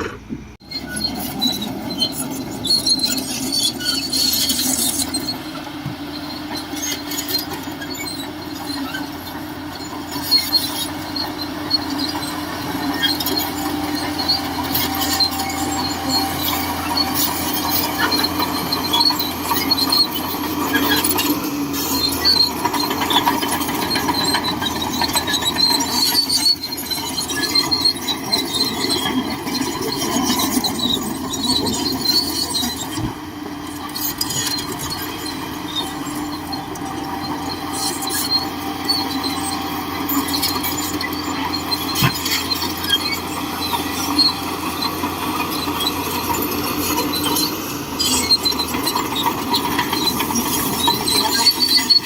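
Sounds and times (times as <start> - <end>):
bulldozer engine under load: 0.0 - 52.0
steel tracks squealing and clanking: 0.0 - 52.0.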